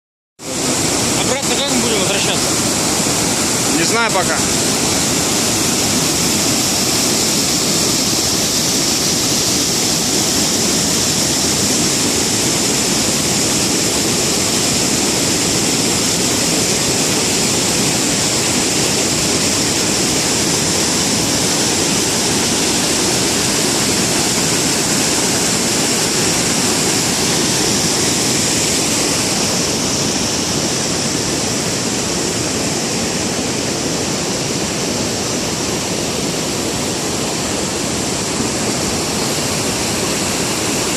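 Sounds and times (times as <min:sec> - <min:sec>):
waterfall rushing: 0:00.4 - 0:40.9.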